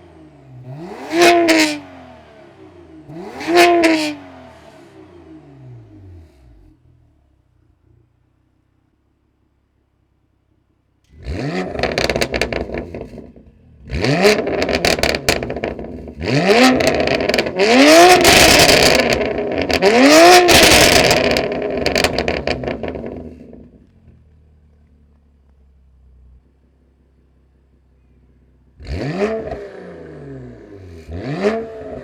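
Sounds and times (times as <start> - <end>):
car engine revving: 0.0 - 8.2, 11.0 - 25.1, 27.7 - 32.0
exhaust crackles: 0.0 - 9.2, 11.0 - 32.0.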